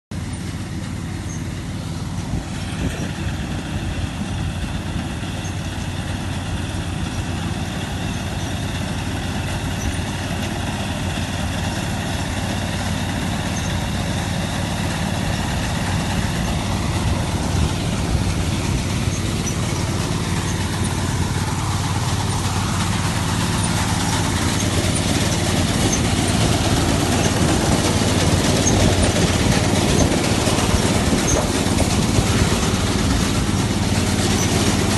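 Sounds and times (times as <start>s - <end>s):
harvester engine droning: 0.1s - 34.9s.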